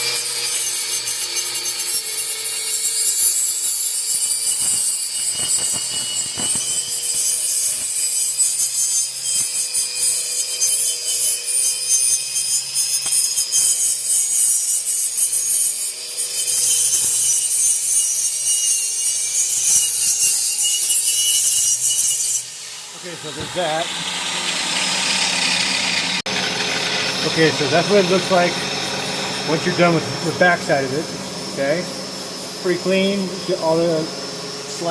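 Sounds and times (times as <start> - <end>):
angle grinder grinding metal: 0.0 - 34.9.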